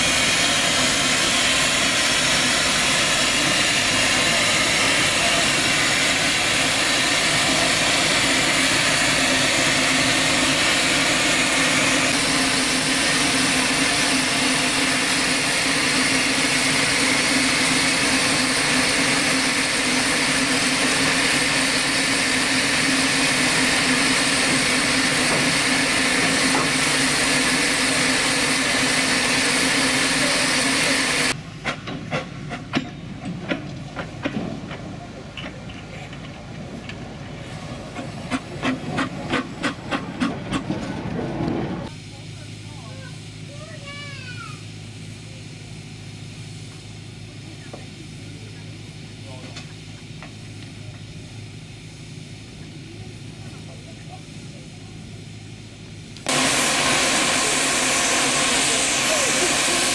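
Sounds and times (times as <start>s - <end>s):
steam locomotive hissing: 0.0s - 59.9s.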